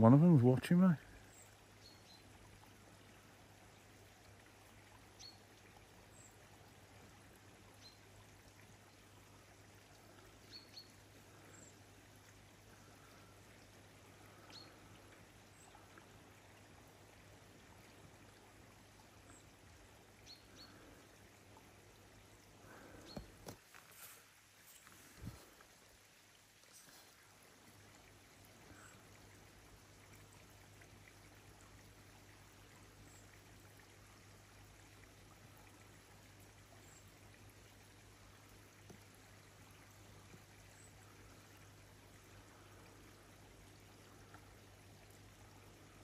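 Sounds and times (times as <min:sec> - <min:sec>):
faint hiss: 0:00.0 - 0:46.0.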